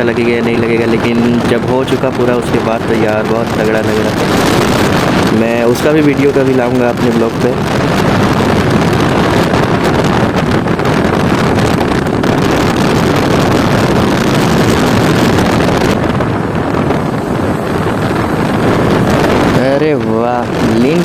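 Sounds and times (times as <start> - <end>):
motorcycle engine running: 0.0 - 10.8, 13.8 - 21.0
wind rushing on microphone: 0.0 - 21.0.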